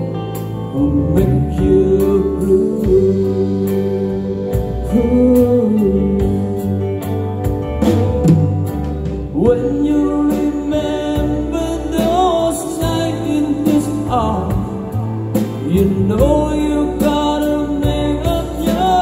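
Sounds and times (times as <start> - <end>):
soft-rock band playing: 0.0 - 19.0.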